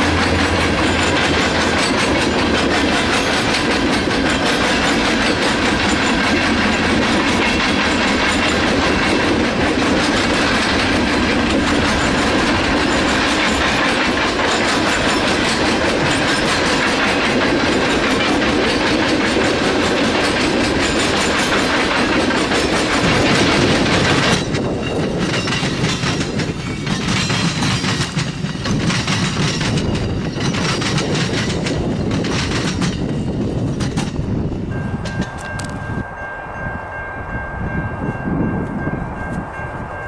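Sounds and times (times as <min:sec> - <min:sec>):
steel wheels clattering on rails: 0:00.0 - 0:36.0
freight train rolling past: 0:00.0 - 0:40.0.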